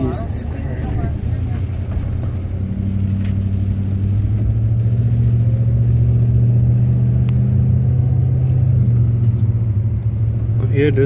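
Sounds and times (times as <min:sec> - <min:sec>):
car engine droning: 0:00.0 - 0:11.0
road noise inside car: 0:00.0 - 0:11.0.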